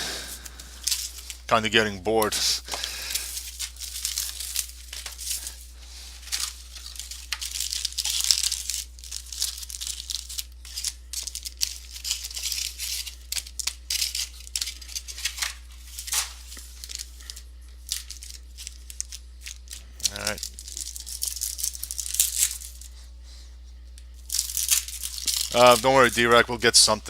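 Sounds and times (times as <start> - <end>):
foil wrappers tearing and crinkling: 0.0 - 23.0, 24.2 - 27.0.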